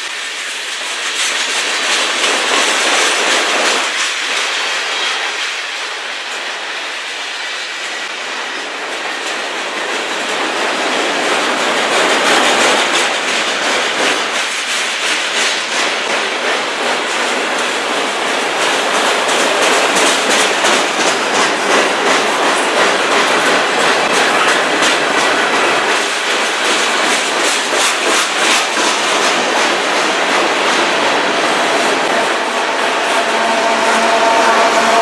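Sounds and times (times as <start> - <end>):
clickety-clack over rail joints: 0.0 - 35.0
train wheels rolling on rails: 0.0 - 35.0.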